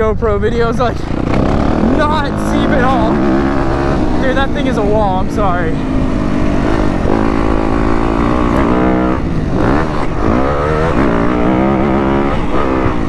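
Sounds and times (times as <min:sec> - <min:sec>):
motorcycle engine revving: 0:00.6 - 0:13.0.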